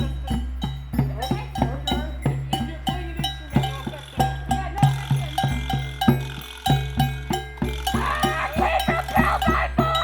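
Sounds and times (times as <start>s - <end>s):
group drumming steady beat: 0.0s - 10.0s
ringing metallic clank: 0.0s - 10.0s.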